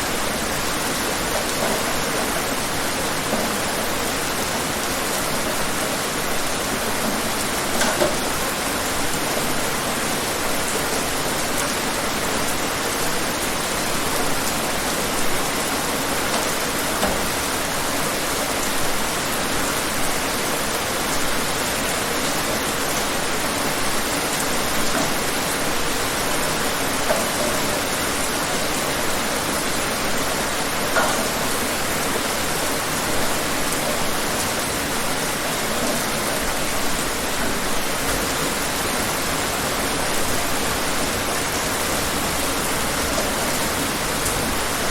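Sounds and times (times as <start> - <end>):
steady rain hissing: 0.0 - 44.9.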